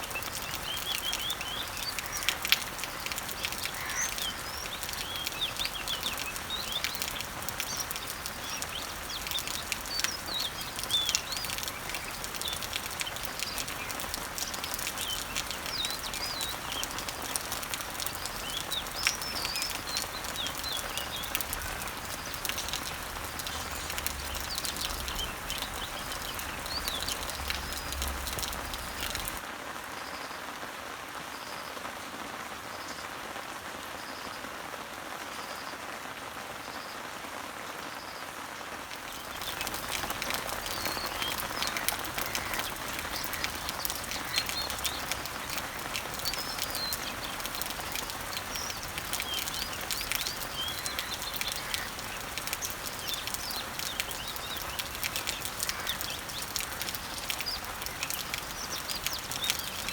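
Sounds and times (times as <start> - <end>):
birds chirping: 0.0 - 29.4, 38.9 - 59.9
rain pattering on leaves: 0.0 - 59.9.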